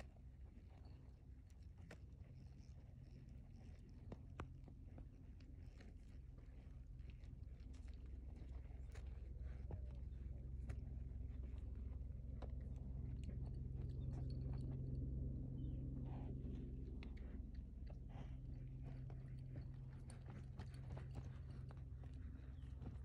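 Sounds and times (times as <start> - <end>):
hooves in sand: 0.0 - 23.0
steady low hum: 0.0 - 23.0.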